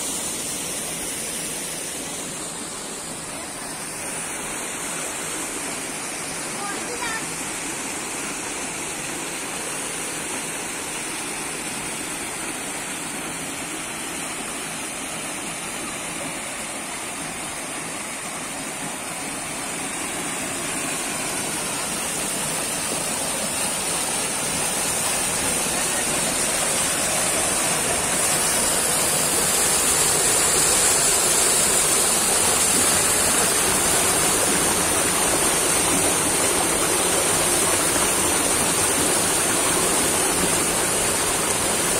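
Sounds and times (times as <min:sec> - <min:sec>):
creek water rushing over rocks: 0:00.0 - 0:41.9.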